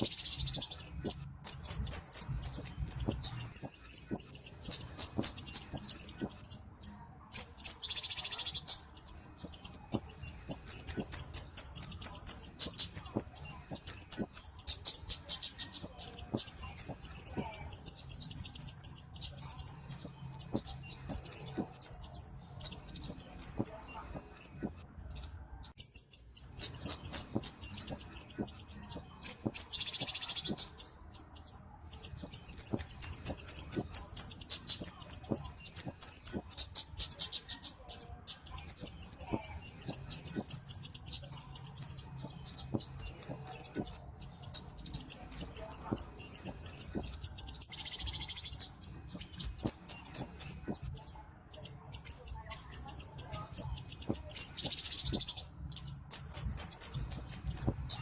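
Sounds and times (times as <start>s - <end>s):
bird calling high chips and trills: 0.0s - 58.0s.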